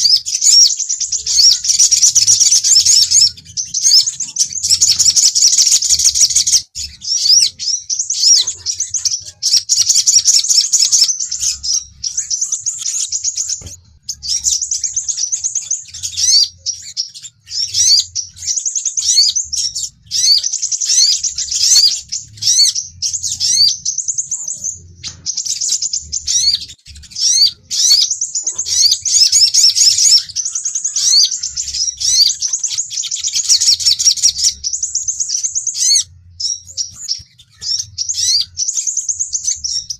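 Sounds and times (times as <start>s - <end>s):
sunbird twittering chirps: 0.0s - 39.9s.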